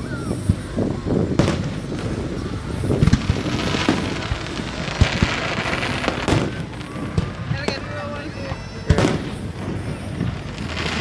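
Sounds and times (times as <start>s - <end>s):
fireworks bangs and booms: 0.0s - 11.0s.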